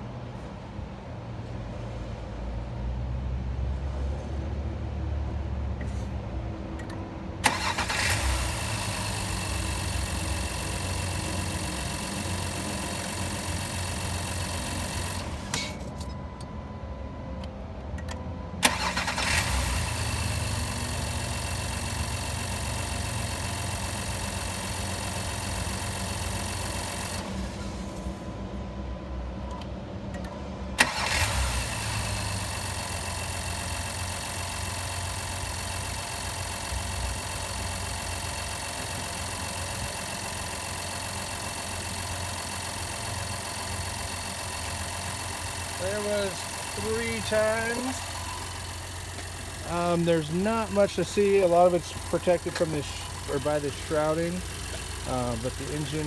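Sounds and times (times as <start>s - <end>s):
car engine starting and idling: 2.3s - 56.0s.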